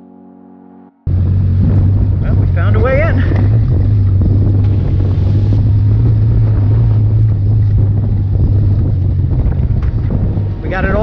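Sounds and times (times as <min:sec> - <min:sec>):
dune buggy engine running: 0:01.1 - 0:11.0
wind buffeting microphone: 0:01.1 - 0:11.0.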